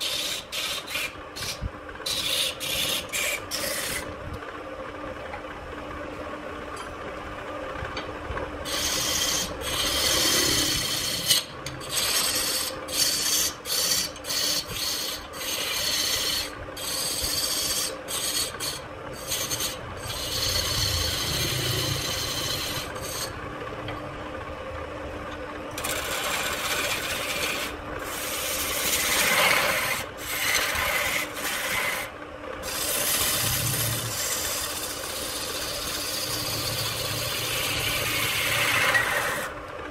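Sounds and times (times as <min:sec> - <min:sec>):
turning tool scraping wood: 0:00.0 - 0:04.1, 0:08.7 - 0:23.4, 0:25.7 - 0:39.6
wood lathe humming: 0:00.0 - 0:04.6, 0:08.0 - 0:24.6, 0:25.7 - 0:39.9.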